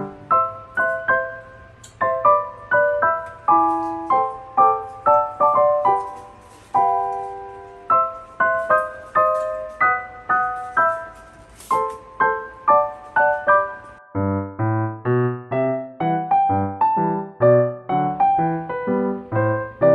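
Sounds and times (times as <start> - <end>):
gentle solo piano melody: 0.0 - 19.9.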